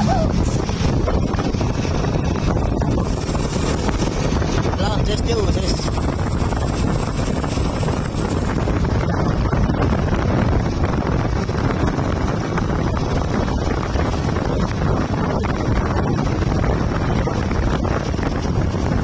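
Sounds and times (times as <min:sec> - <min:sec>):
truck engine and road rumble: 0:00.0 - 0:19.0
wind buffeting microphone: 0:00.0 - 0:19.0.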